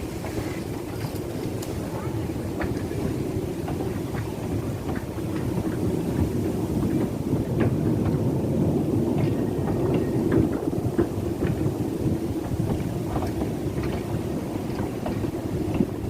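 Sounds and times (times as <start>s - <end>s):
train carriages rumbling: 0.0s - 16.0s.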